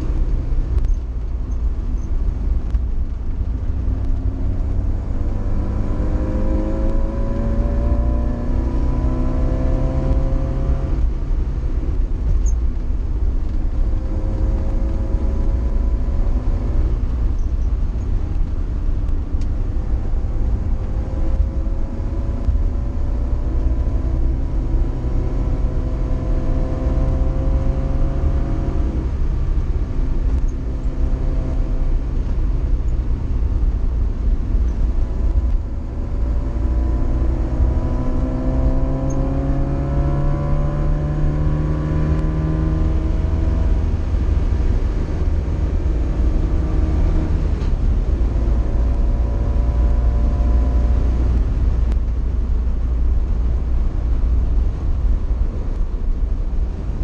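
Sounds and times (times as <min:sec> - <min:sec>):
car engine accelerating: 0:00.0 - 0:57.0
low road noise: 0:00.0 - 0:57.0.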